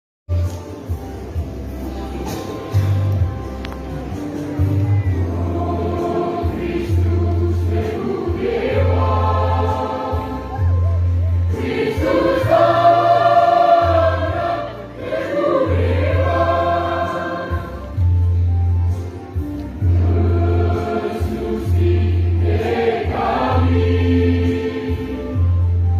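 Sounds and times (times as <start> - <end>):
choir singing in harmony: 4.6 - 25.9.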